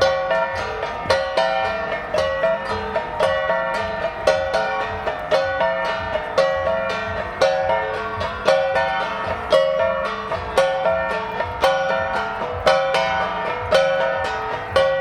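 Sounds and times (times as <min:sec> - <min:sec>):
flat gong ensemble playing: 0:00.0 - 0:15.0.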